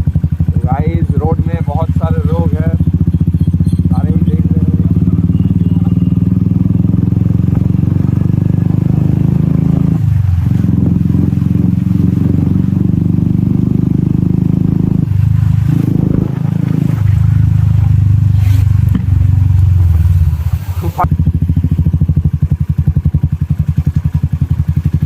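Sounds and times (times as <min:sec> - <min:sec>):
motorcycle engine with loud exhaust: 0:00.0 - 0:25.0.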